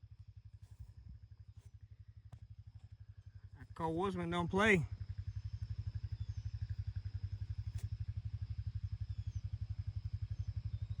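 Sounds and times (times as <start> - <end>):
engine idling: 0.1 - 11.0.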